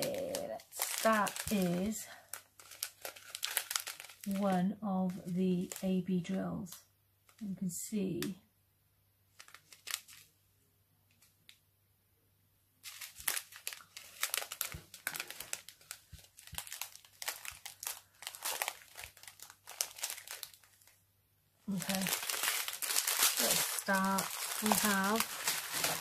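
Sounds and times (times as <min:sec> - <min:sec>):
plastic bags crinkling: 0:00.0 - 0:07.4, 0:09.3 - 0:10.3, 0:12.8 - 0:21.0, 0:21.6 - 0:26.0.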